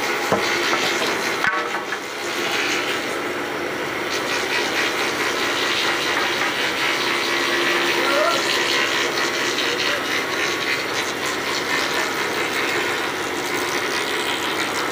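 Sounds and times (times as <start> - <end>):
thickness planer running: 0.0 - 14.9.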